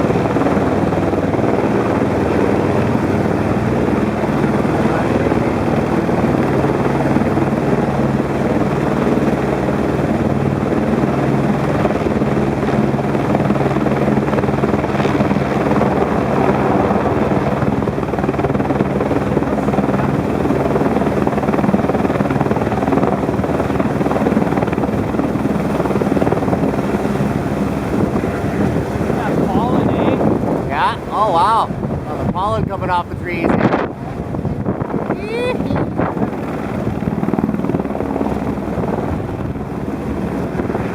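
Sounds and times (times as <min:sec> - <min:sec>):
helicopter engine hum: 0:00.0 - 0:40.9
helicopter rotor chop: 0:00.0 - 0:40.9.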